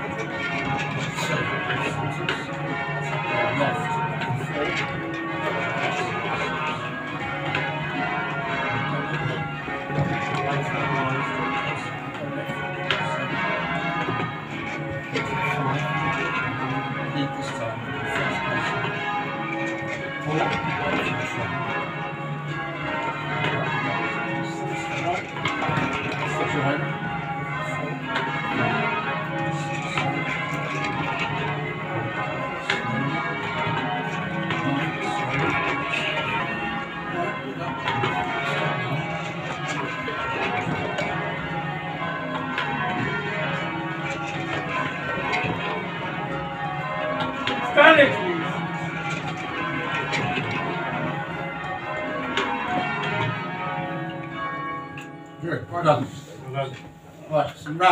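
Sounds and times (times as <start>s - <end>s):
church bells ringing in changes: 0.0s - 57.9s.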